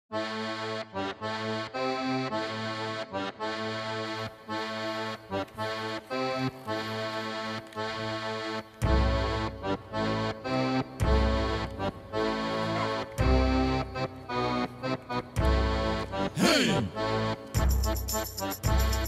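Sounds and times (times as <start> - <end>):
accordion music: 0.1 - 19.0.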